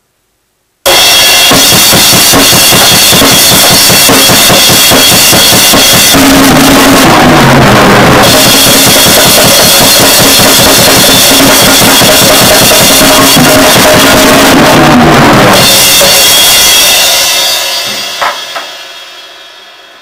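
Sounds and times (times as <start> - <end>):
drum kit played loud: 0.8 - 20.0.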